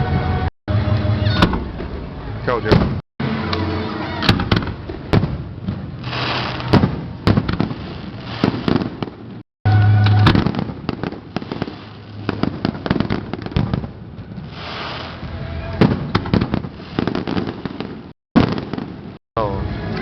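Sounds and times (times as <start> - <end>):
fireworks banging and crackling: 0.9 - 19.2.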